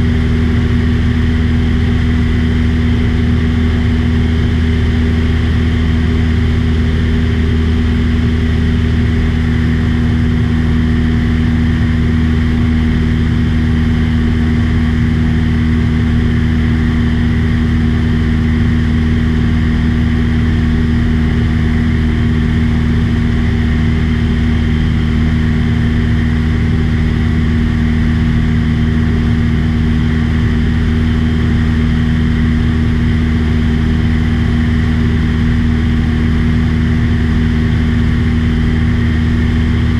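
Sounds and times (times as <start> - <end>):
small aircraft engine drone: 0.0 - 39.9.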